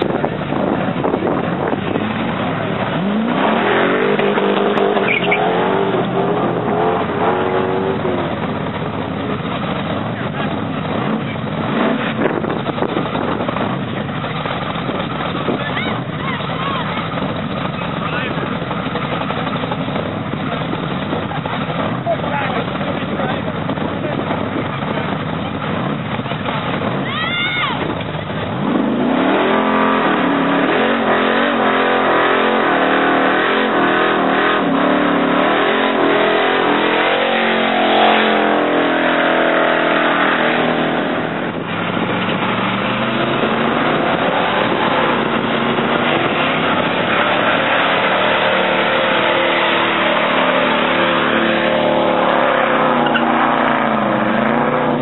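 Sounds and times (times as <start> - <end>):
car engine revving hard: 0.0 - 27.2, 28.2 - 55.0
tires squealing on pavement: 0.0 - 55.0.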